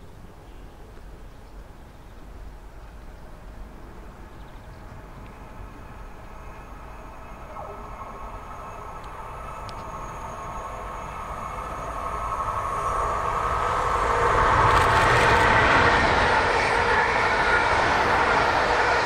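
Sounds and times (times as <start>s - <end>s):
train passing close by: 0.0s - 19.0s.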